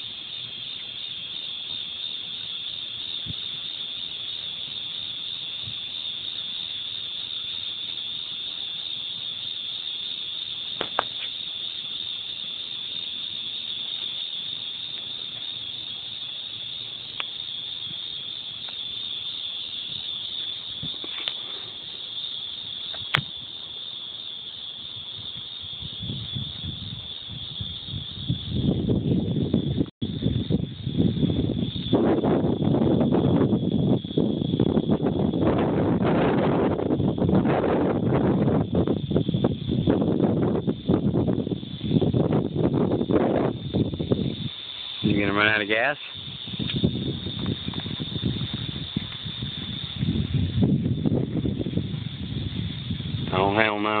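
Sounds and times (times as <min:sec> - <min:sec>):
insect trill: 0:00.0 - 0:54.0.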